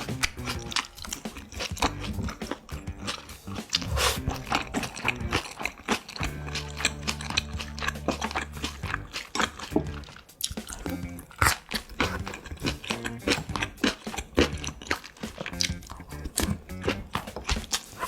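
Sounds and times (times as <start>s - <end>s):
background music: 0.0s - 18.0s
mouth chewing and biting food: 0.0s - 18.0s.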